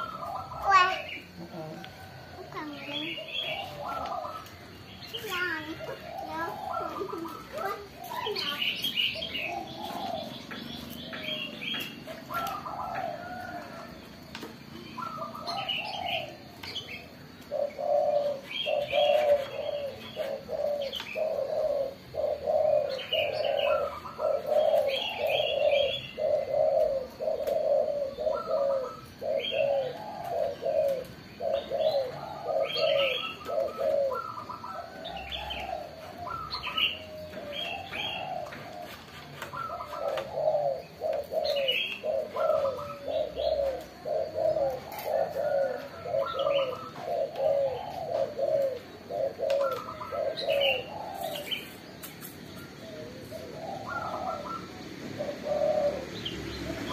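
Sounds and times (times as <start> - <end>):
doves cooing: 0.0 - 56.9
small birds chirping: 0.0 - 56.9.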